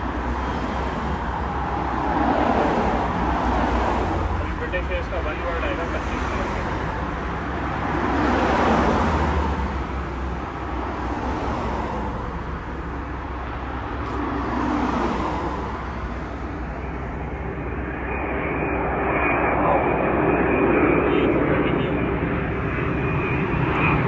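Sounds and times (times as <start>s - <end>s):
jet airliner whine: 0.0s - 24.0s
vehicles passing: 0.0s - 24.0s.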